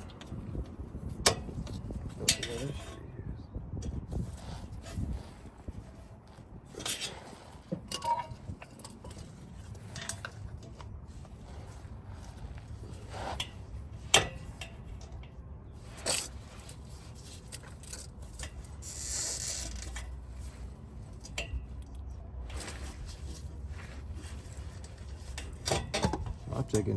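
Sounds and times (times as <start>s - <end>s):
metal tools clinking and scraping: 0.0s - 26.9s.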